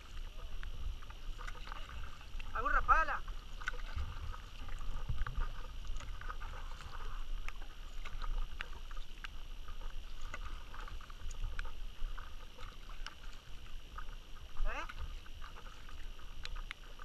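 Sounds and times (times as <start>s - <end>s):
paddle splashing water: 0.0s - 17.0s
steady low rumble: 0.0s - 17.0s.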